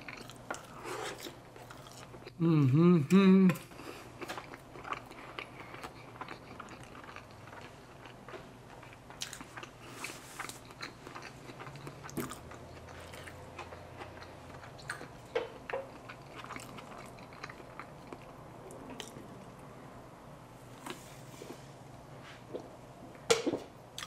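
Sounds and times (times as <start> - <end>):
person chewing food: 0.0 - 19.6.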